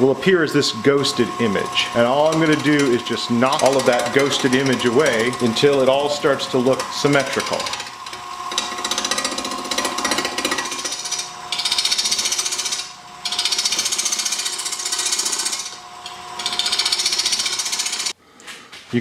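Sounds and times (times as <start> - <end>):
lathe whining: 0.0 - 18.2
lathe tool chattering scrape: 0.6 - 18.2.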